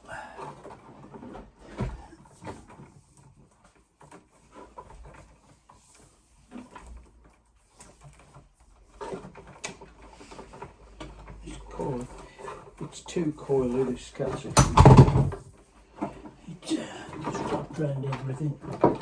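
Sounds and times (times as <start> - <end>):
knocks and clicks of handling: 0.4 - 13.0, 13.7 - 16.4, 17.1 - 19.0.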